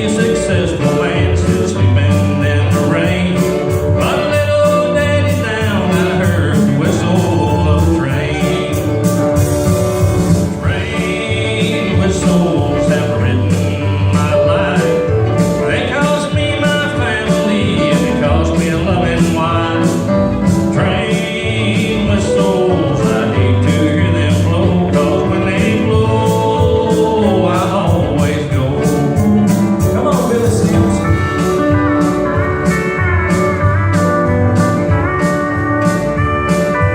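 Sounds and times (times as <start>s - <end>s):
country band playing: 0.0s - 36.9s
man singing: 0.0s - 36.9s.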